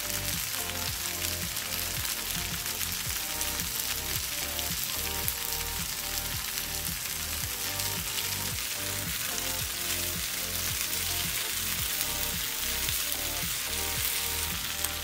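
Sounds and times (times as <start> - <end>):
background music with low beat: 0.0 - 15.0
vegetables sizzling in oil: 0.0 - 15.0.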